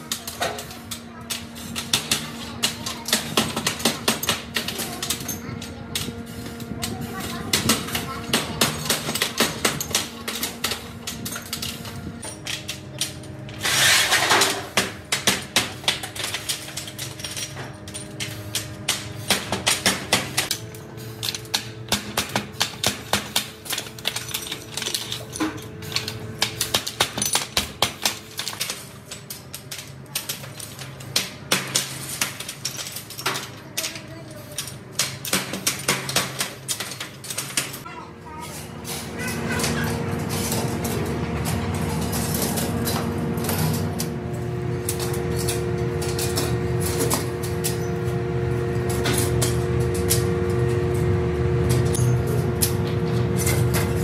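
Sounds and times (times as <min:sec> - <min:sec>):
metal parts clinking and clattering: 0:00.0 - 0:51.1, 0:51.7 - 0:54.0.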